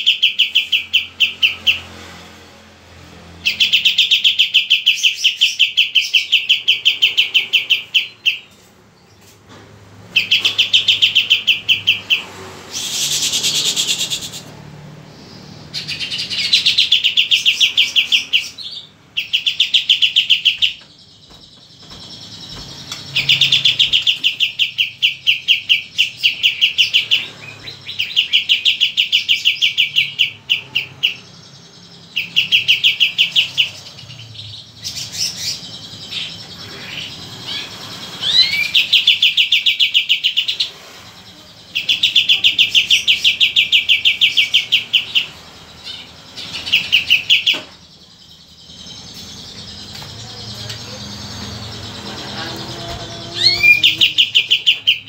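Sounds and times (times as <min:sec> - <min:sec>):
bird trilling: 0:00.0 - 0:02.0, 0:03.4 - 0:08.6, 0:10.1 - 0:40.8, 0:41.7 - 0:47.9, 0:48.5 - 0:55.0.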